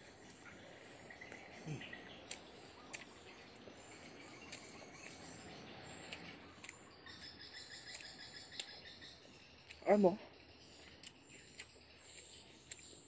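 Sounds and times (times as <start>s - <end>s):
quiet chewing: 0.0s - 13.0s
cricket trill: 1.7s - 13.0s.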